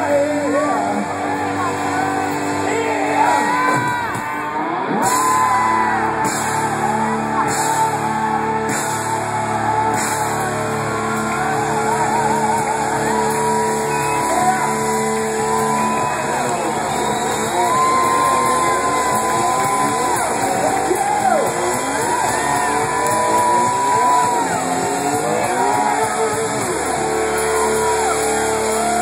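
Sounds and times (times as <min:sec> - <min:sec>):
electric guitar sustained notes: 0:00.0 - 0:29.0
live rock band playing: 0:00.0 - 0:29.0
person singing: 0:00.0 - 0:29.0.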